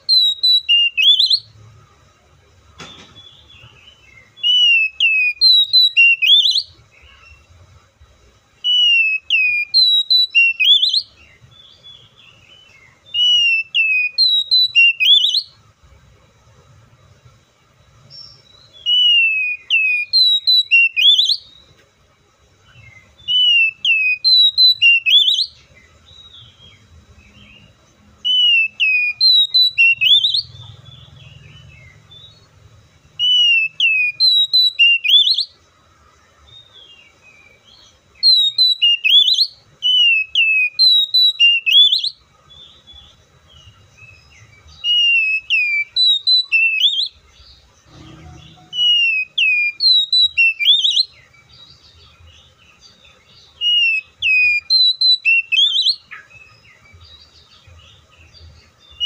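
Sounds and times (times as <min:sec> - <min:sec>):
bird singing whistled notes: 0:00.0 - 0:02.2, 0:02.8 - 0:07.6, 0:08.5 - 0:15.7, 0:17.1 - 0:21.8, 0:22.4 - 0:59.0.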